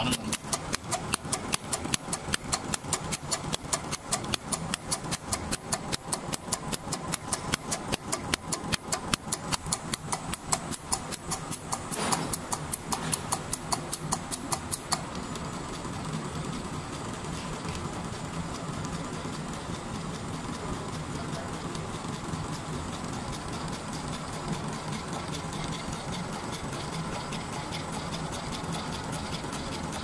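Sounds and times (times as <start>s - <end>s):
sewing machine clicking: 0.0s - 30.0s
sewing machine hum: 0.0s - 30.0s.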